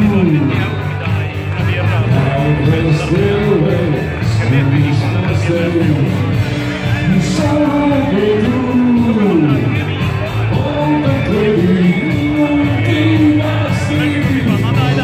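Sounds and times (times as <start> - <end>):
live rock band playing: 0.0 - 15.0
man singing: 0.0 - 15.0.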